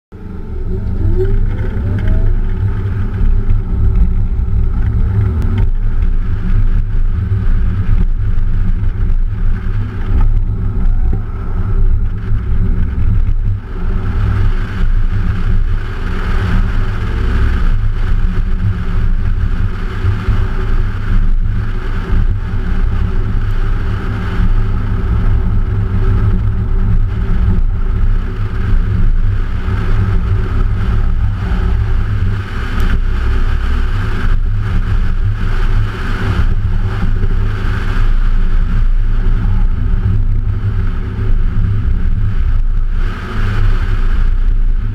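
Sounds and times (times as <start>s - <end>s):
car engine: 0.1s - 44.9s
wind rumble on microphone: 0.1s - 44.9s.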